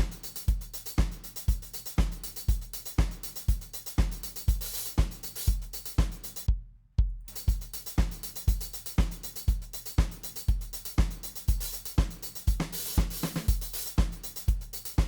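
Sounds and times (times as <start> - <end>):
hi-hats: 0.0 - 6.5, 7.2 - 15.0
kick drum: 0.0 - 15.0
snare drum: 0.0 - 15.0.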